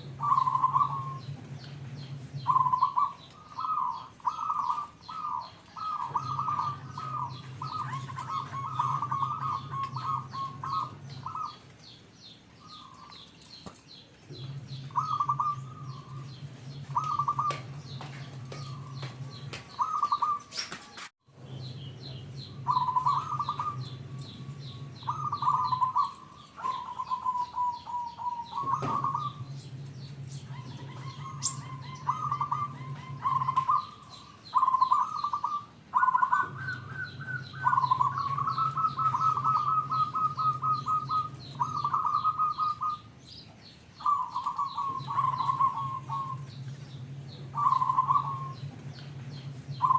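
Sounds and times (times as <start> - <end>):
dove cooing: 0.0 - 12.0, 12.6 - 21.0, 21.7 - 49.9
low hum: 0.0 - 20.5, 21.3 - 49.9.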